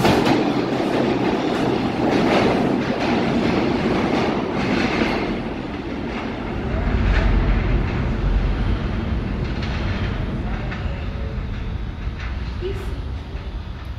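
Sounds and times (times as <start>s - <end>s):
subway train wheels rumbling: 0.0s - 13.9s.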